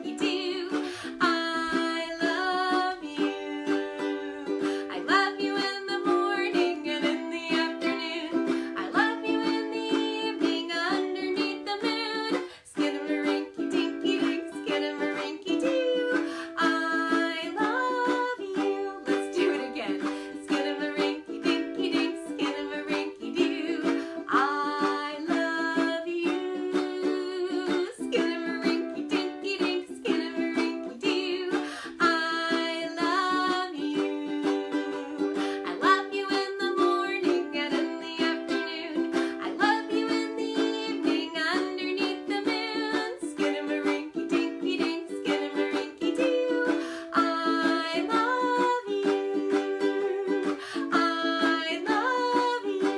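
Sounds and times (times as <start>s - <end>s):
person singing: 0.0s - 52.9s
ukulele strumming: 0.0s - 52.9s.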